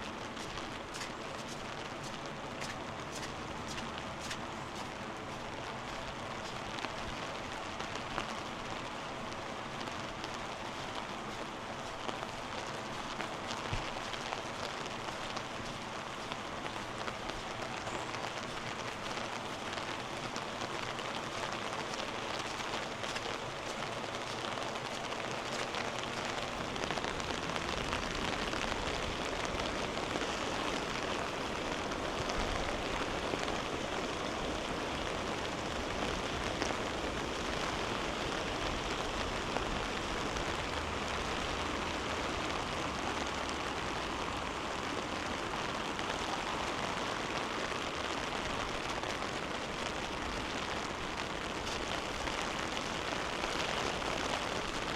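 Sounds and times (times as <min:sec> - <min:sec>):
rushing floodwater: 0:00.0 - 0:54.9.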